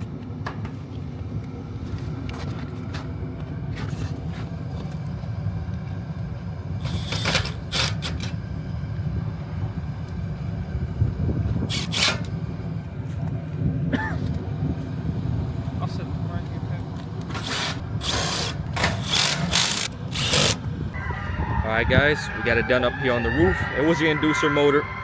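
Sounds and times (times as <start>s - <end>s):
hvac unit rumbling: 0.0s - 25.0s.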